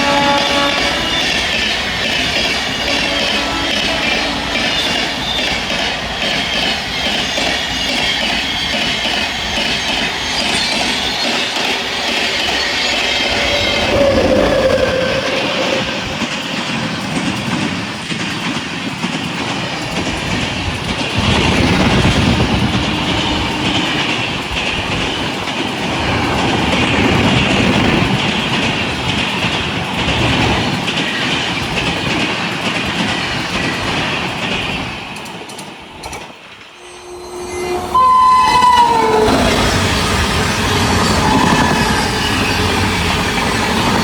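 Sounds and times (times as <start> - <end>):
train wheels clattering: 0.0 - 36.8.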